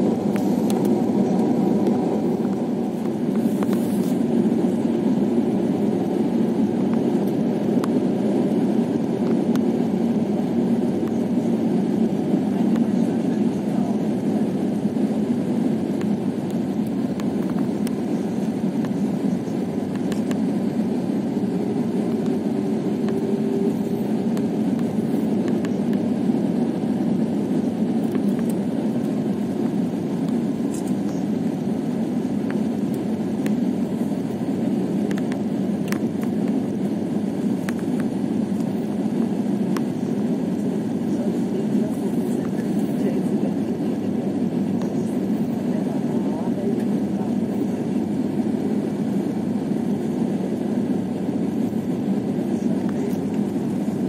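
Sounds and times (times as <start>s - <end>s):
jet cabin engine and airflow noise: 0.0s - 54.0s.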